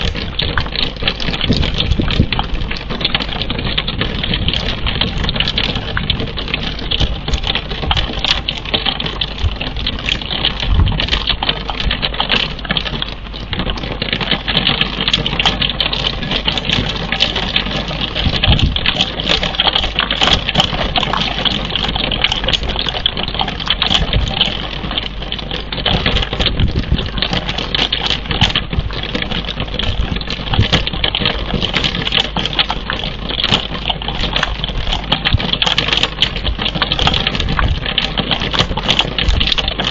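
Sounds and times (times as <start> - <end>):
constant low rumble: 0.0 - 39.9
rain pattering on wooden box: 0.0 - 39.9.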